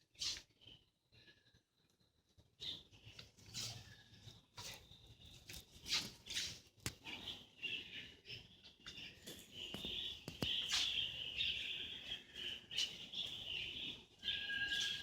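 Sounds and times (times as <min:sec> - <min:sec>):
bird chirps: 0:02.3 - 0:15.0.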